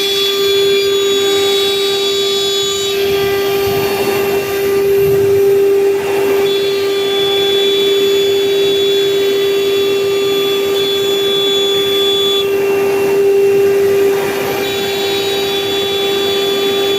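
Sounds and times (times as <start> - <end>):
router spindle whining: 0.0 - 16.9.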